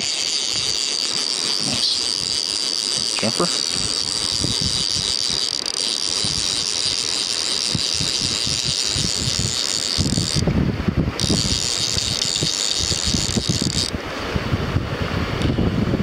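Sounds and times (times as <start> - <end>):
river current rushing: 0.0 - 15.4
wind buffeting microphone: 0.0 - 16.0.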